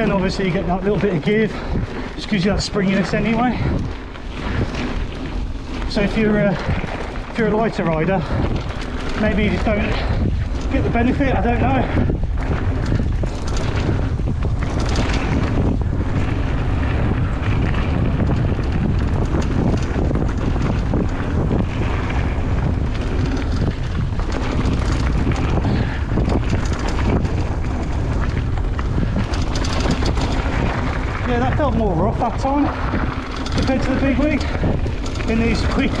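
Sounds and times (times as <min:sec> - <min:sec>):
bike knocks and rattles: 0:00.0 - 0:36.0
tyres rolling over gravel: 0:00.0 - 0:36.0
wind buffeting microphone: 0:00.0 - 0:36.0.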